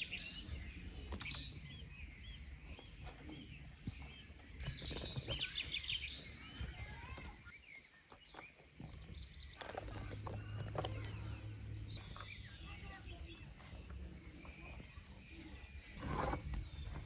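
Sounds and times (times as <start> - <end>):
wild birds chirping and singing: 0.0 - 17.0.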